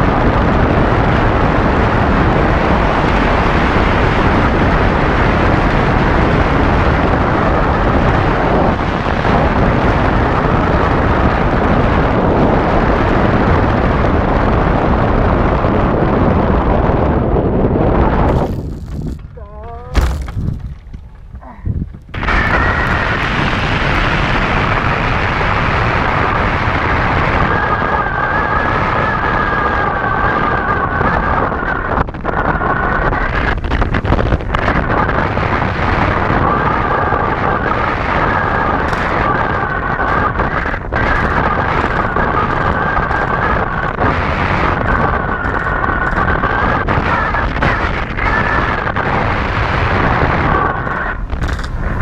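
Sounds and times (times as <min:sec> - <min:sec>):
wind buffeting camera: 0:00.0 - 0:52.0.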